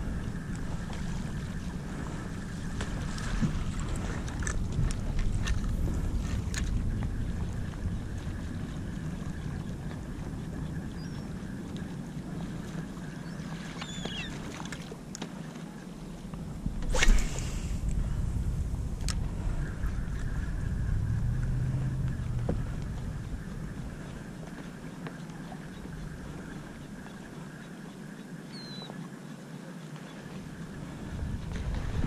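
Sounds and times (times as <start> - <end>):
kayak rocking on choppy water: 0.0 - 17.0, 17.8 - 28.4, 29.1 - 32.0
wind rumbling on microphone: 0.0 - 29.1, 30.1 - 32.0.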